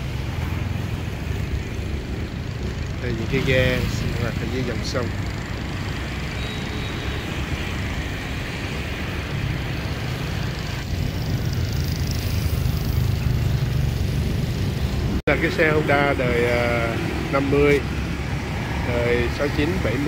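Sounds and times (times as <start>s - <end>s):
road traffic rumble and hiss: 0.0s - 20.0s.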